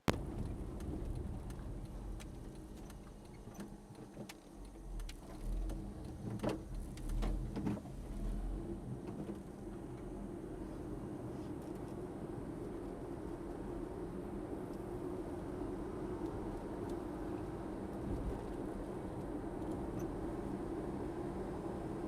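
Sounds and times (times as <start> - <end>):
low vehicle rumble: 0.0 - 22.0.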